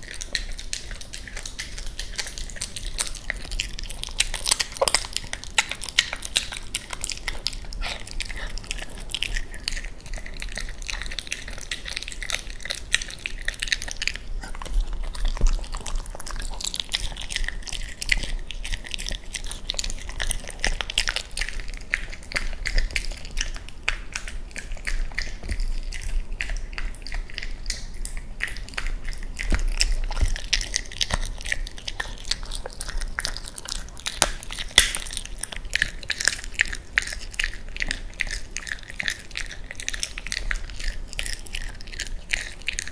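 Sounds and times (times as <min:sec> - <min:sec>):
dog chewing and crunching bones: 0:00.0 - 0:42.9.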